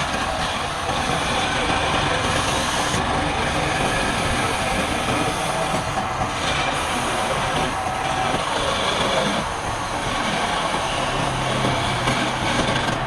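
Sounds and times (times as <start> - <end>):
woodworking power tool hissing: 0.0 - 13.0.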